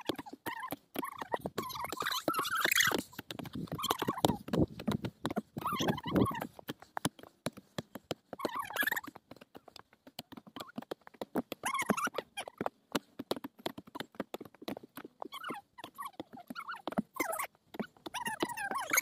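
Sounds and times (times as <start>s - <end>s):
hoes chopping into dry soil: 0.0s - 19.0s.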